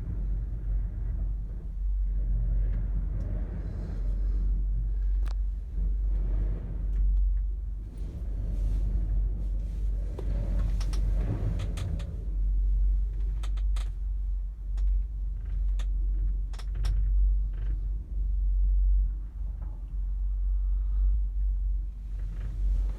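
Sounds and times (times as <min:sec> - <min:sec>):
gondola cabin creaking: 0:00.0 - 0:22.9
steady low rumble: 0:00.0 - 0:22.9.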